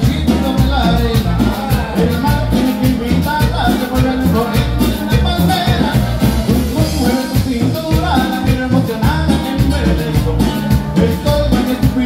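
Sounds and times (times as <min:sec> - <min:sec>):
latin dance music: 0:00.0 - 0:12.0
person singing: 0:00.0 - 0:12.0.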